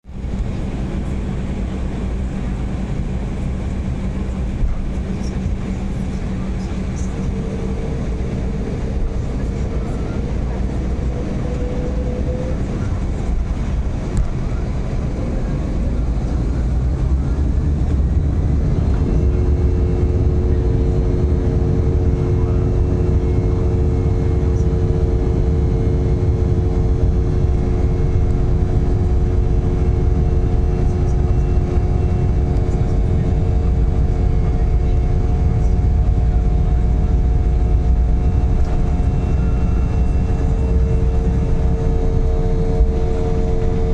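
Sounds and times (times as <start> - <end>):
jet engines rumbling: 0.1 - 43.9.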